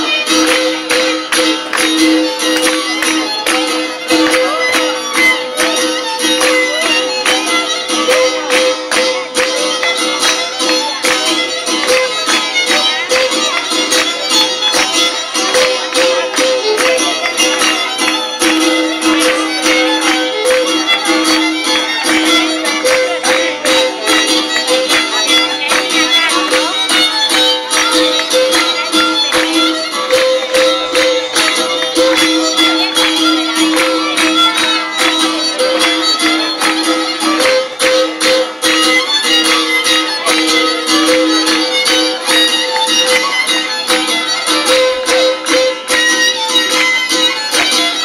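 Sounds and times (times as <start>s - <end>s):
fast steady percussion: 0.0s - 48.0s.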